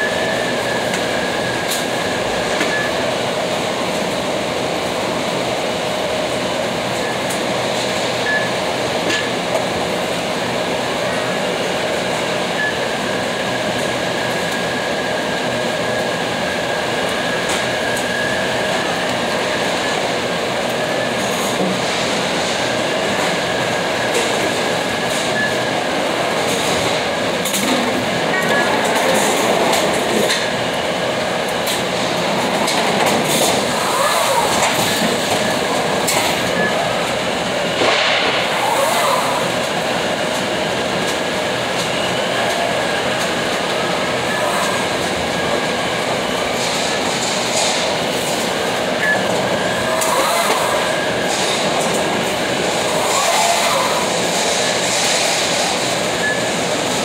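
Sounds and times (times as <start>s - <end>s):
loud mechanical running noise: 0.0s - 57.0s.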